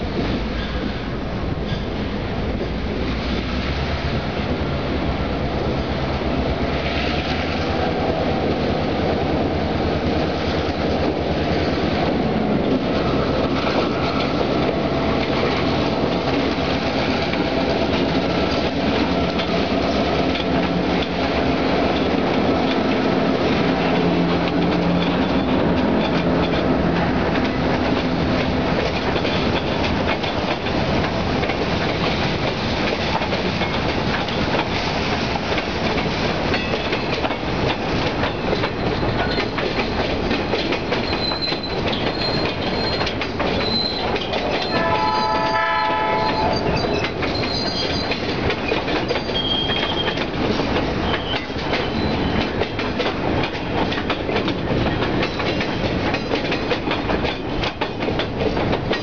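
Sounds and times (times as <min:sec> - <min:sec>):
rumble of rolling freight cars: 0:00.0 - 0:59.0
wheels clicking over rail joints: 0:10.0 - 0:59.0.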